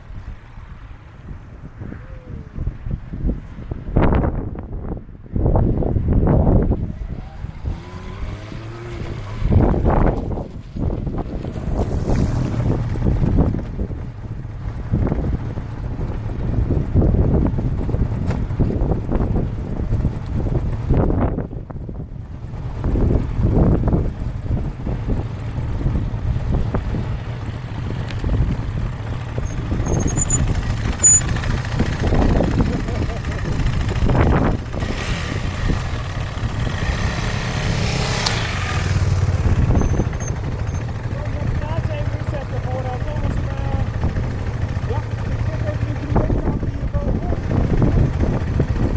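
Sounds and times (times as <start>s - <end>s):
wind buffeting microphone: 0.0s - 48.9s
motorcycle engine running: 6.0s - 48.9s.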